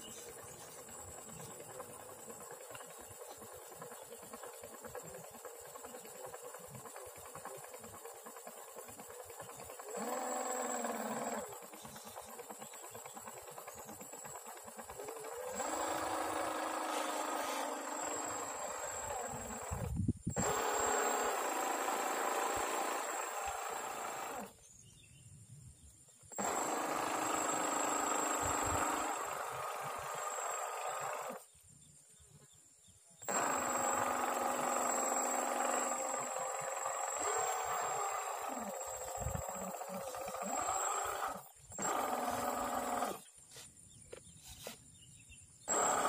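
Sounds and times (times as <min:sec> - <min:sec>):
small electric motor whirring: 0:00.0 - 0:24.8, 0:26.2 - 0:31.6, 0:33.2 - 0:44.9, 0:45.6 - 0:46.0.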